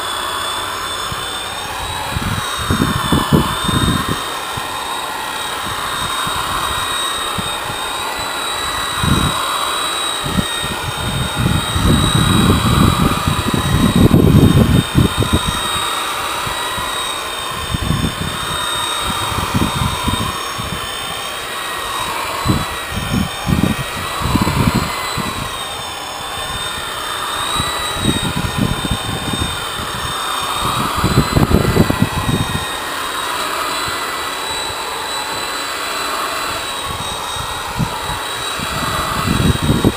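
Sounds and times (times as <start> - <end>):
electric polisher whining: 0.0 - 39.9
low rumbling: 0.6 - 39.9.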